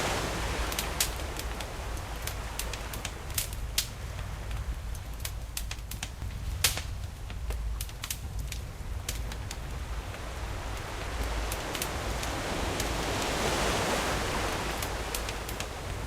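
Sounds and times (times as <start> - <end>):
sea waves rumbling: 0.0 - 16.0
campfire crackling and popping: 0.6 - 13.4, 14.6 - 15.9.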